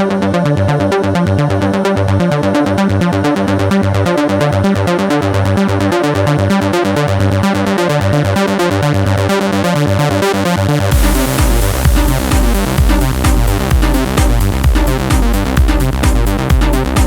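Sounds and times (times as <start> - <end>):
electronic dance music: 0.1 - 17.0.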